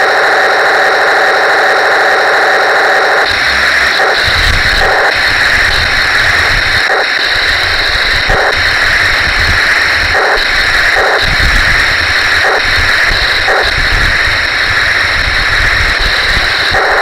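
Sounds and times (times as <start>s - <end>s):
toy tank motors whining and rattling: 2.4s - 17.0s
low rumble: 3.3s - 17.0s.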